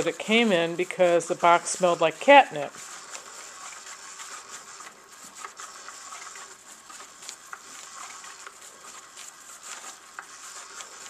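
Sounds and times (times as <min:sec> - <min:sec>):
scratchy rustles under fabric: 0:00.0 - 0:11.0
toy motor whir: 0:00.0 - 0:11.0.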